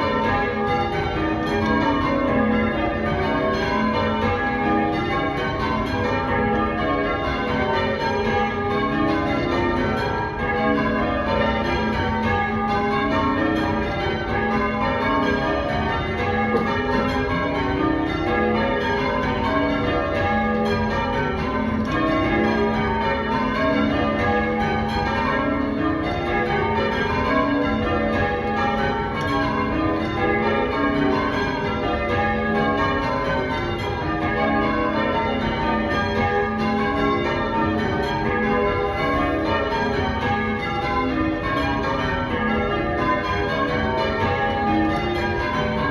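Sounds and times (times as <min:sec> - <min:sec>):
church bells change ringing: 0:00.0 - 0:45.9.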